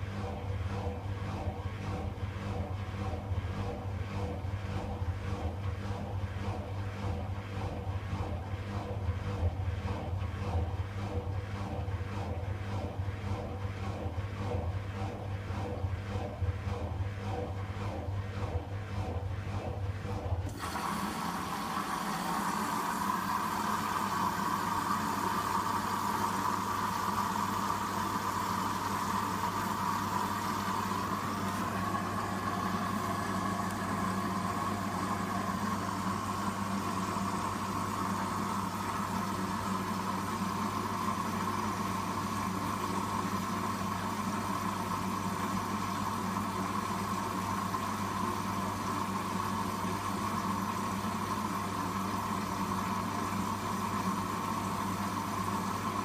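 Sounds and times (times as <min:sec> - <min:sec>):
water rushing through washing machine: 0:00.0 - 0:56.0.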